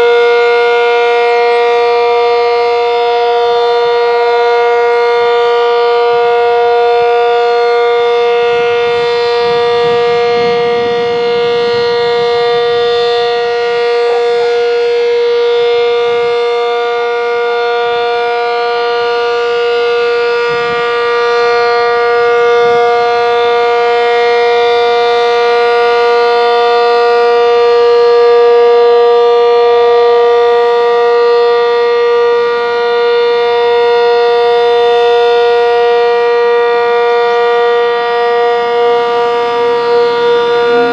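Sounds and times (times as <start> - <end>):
outdoor warning siren steady tone: 0.0 - 40.9.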